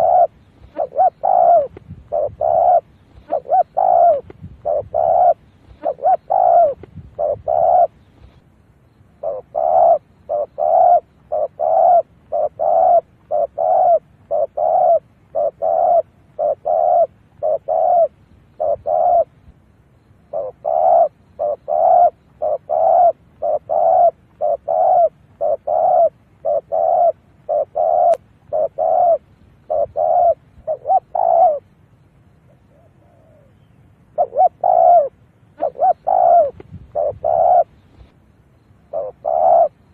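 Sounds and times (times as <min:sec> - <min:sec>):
dove cooing: 0:00.0 - 0:08.4, 0:09.2 - 0:19.5, 0:20.2 - 0:31.7, 0:32.4 - 0:38.2, 0:38.8 - 0:39.9.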